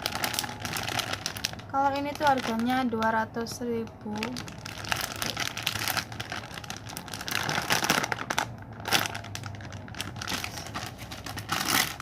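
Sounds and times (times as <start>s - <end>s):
crinkly packaging rustling: 0.0s - 12.0s.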